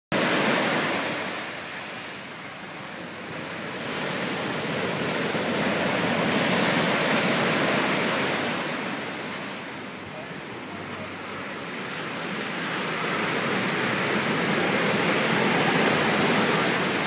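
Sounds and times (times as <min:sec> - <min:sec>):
ocean surf breaking: 0:00.1 - 0:17.0.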